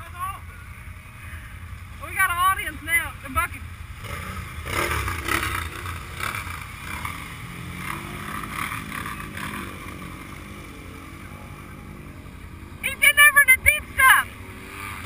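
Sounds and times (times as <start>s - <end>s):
off-road vehicle engines droning: 0.0s - 15.0s.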